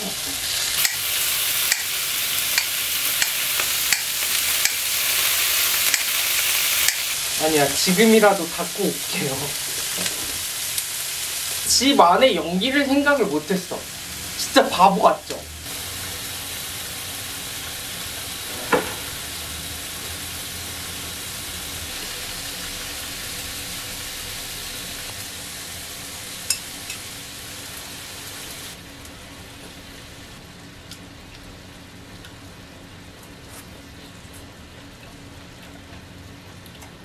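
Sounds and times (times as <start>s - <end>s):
meat sizzling on a grill: 0.0s - 30.4s.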